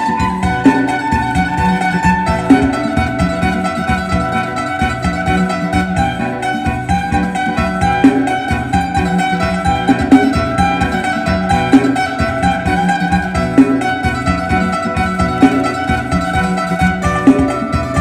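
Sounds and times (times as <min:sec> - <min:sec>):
plucked lute playing fast tune: 0:00.0 - 0:18.0.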